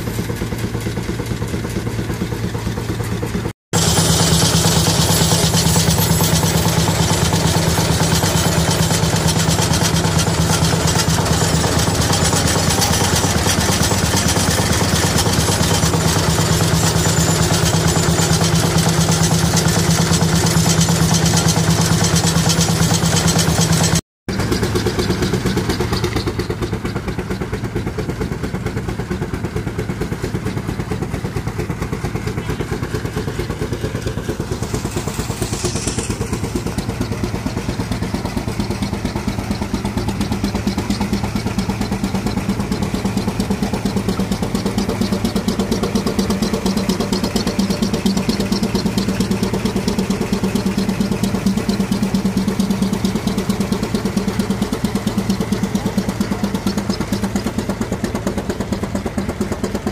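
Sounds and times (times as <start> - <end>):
steam engine mechanical beat: 0.0 - 59.9
threshing machine clatter: 0.0 - 59.9.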